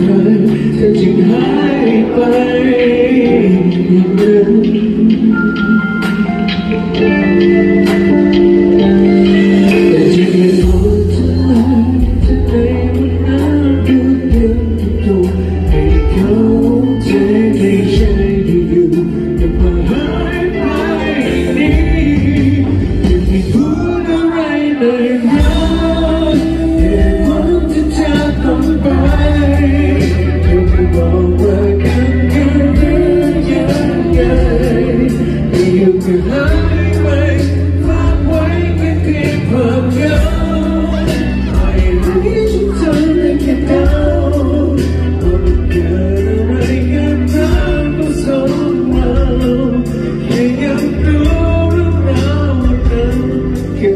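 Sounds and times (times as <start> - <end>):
band playing: 0.0 - 53.9
man singing into microphone: 0.0 - 53.9.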